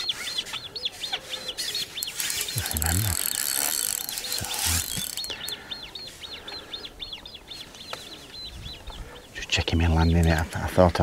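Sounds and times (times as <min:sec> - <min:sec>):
songbird high chirps: 0:00.0 - 0:10.6.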